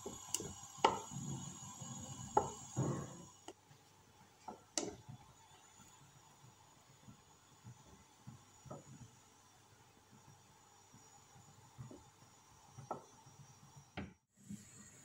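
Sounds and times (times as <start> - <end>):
wooden spoon stirring liquid: 0.0 - 13.2.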